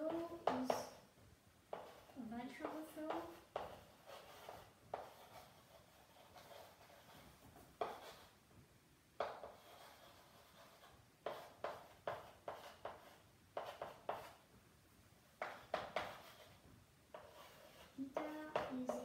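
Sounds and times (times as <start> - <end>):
chalk scratching on blackboard: 0.0 - 1.0, 1.7 - 8.4, 9.2 - 14.4, 15.4 - 19.0
chalk tapping on blackboard: 0.0 - 1.0, 1.7 - 8.4, 9.2 - 14.4, 15.4 - 19.0.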